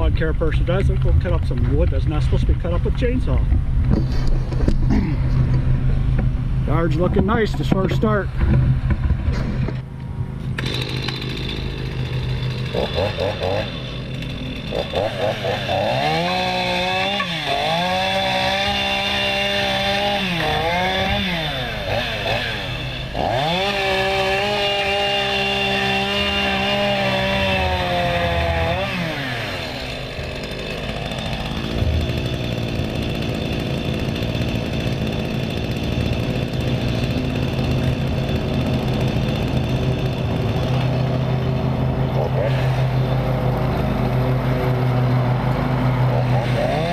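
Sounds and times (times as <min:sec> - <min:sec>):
chainsaw engine revving: 0:08.5 - 0:46.9.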